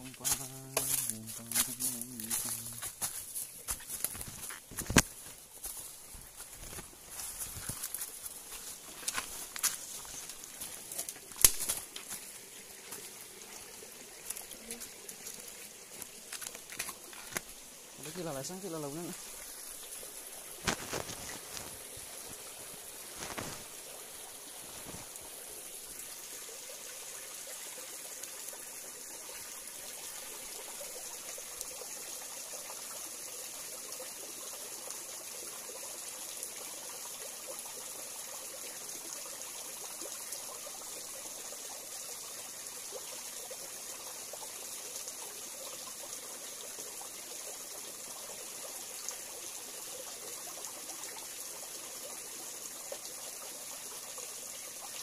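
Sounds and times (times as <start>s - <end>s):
stream trickling into rocky pool: 0.0s - 55.0s.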